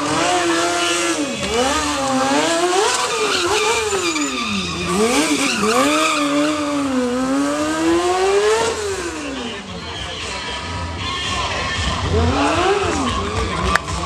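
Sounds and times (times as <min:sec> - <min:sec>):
motorcycle engine revving: 0:00.0 - 0:14.0
tyres skidding: 0:00.0 - 0:14.0.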